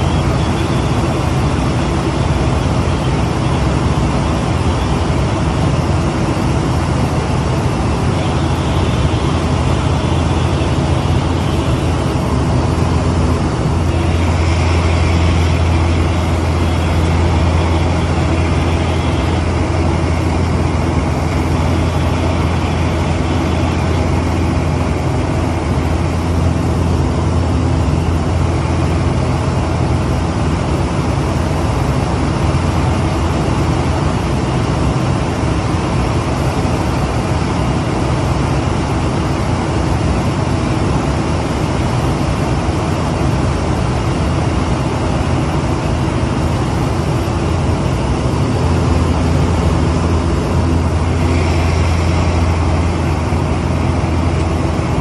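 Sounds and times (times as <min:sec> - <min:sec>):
plane engine and propeller drone: 0:00.0 - 0:55.0.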